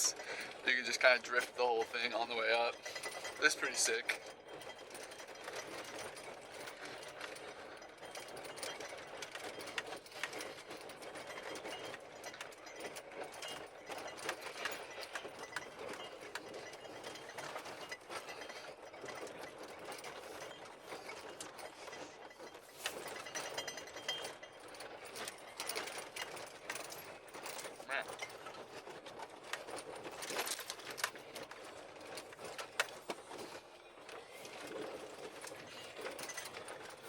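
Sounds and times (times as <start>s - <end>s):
rattling and clicking of a ride: 0.0s - 37.0s.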